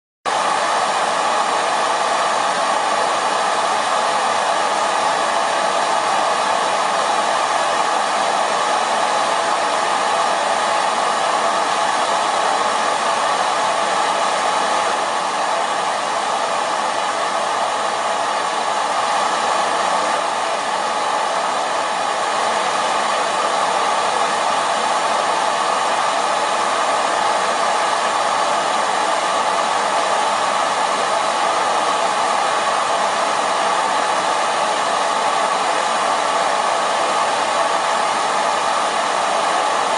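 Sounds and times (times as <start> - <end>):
hair dryer blowing: 0.3 - 39.9.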